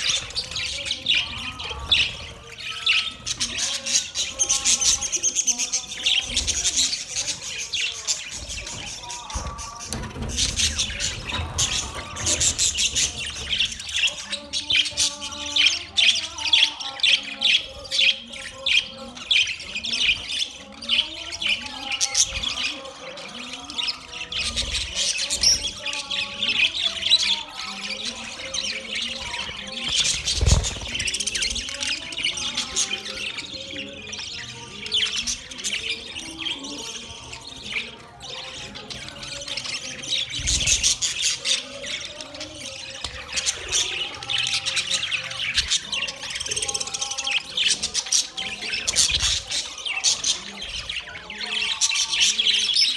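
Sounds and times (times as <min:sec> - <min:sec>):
budgerigars chattering: 0:00.0 - 0:52.9.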